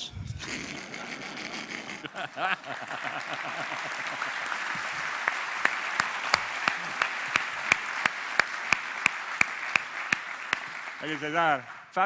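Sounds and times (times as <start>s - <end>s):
loud rhythmic clap: 0.0s - 12.0s
audience applause: 0.4s - 12.0s.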